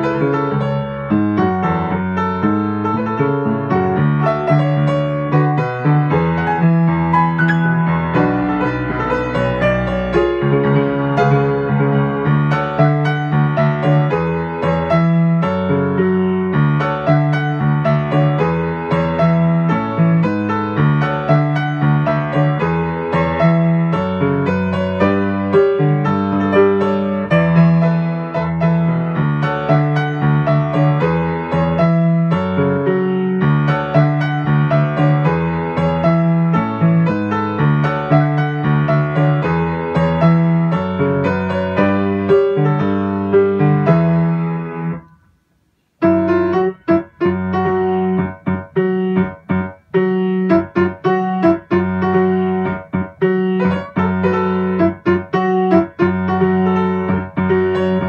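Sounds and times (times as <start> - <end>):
grand piano playing pop: 0.0 - 45.3, 45.9 - 58.0.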